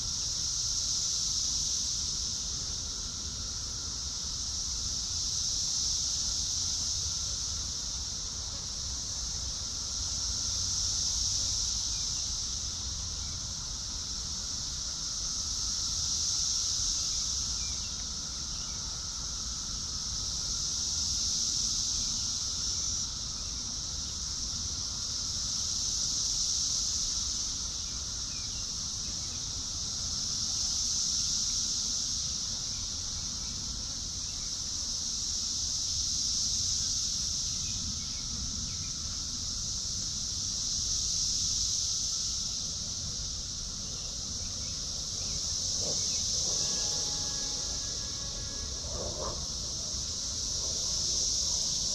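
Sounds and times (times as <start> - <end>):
insect chorus drone: 0.0 - 51.9.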